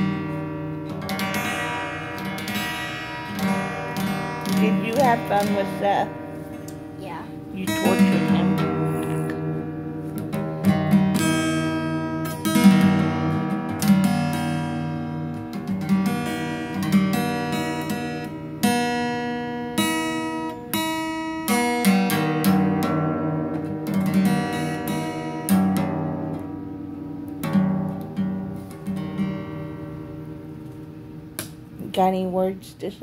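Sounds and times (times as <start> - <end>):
acoustic guitar picked notes: 0.0 - 33.0.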